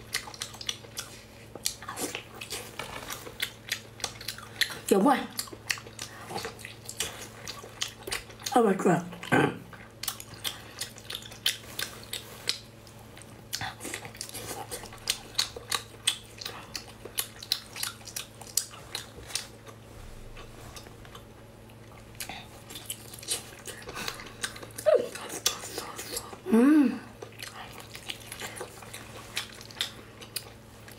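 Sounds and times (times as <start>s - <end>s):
wet chewing and mouth clicks: 0.0s - 26.5s, 27.1s - 30.9s
faint steady hum: 0.0s - 30.9s.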